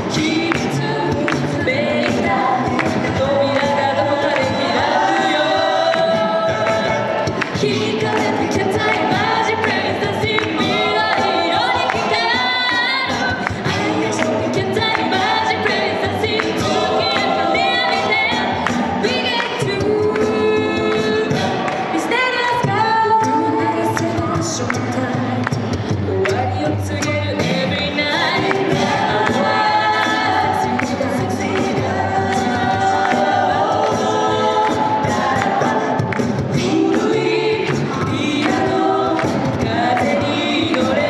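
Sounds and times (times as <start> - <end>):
a cappella group singing in harmony: 0.0 - 41.0
vocal percussion beat: 0.0 - 41.0.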